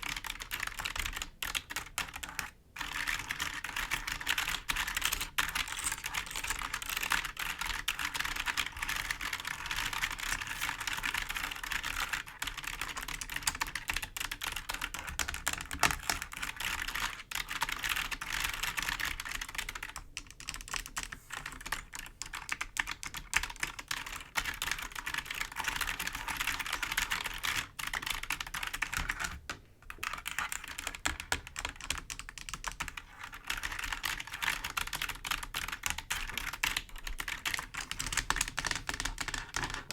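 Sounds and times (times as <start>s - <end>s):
fingers tapping keyboard keys: 0.0s - 39.9s.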